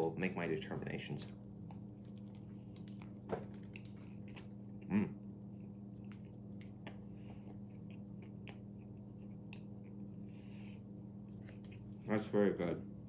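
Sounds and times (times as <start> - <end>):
steady low hum: 0.0 - 13.0
person chewing crunchy food: 1.5 - 12.1.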